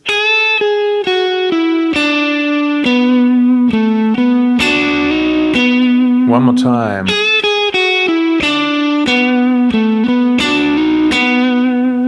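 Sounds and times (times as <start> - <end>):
electric guitar lick: 0.0 - 12.0.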